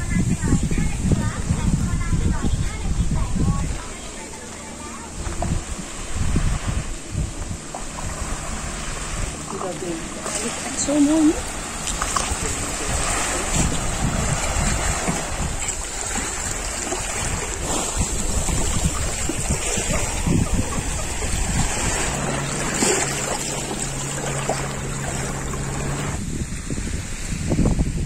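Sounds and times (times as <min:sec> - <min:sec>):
steady low hum: 0:00.0 - 0:26.4
small waves lapping on sand: 0:00.0 - 0:28.0
wind gusting on microphone: 0:00.0 - 0:28.0.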